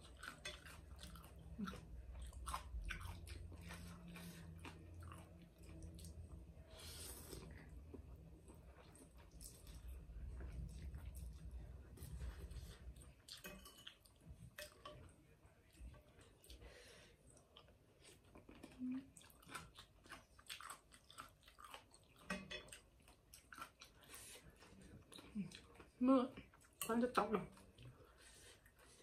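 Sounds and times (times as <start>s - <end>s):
person chewing wet food: 0.0s - 26.8s.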